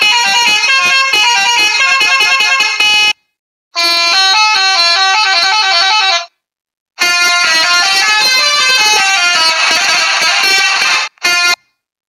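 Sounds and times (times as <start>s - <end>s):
musical bus horn playing a tune: 0.0s - 3.2s, 3.8s - 6.4s, 7.0s - 11.8s.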